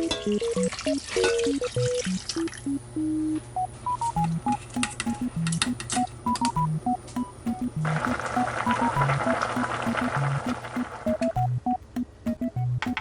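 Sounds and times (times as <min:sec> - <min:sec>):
beeping melody: 0:00.0 - 0:13.0.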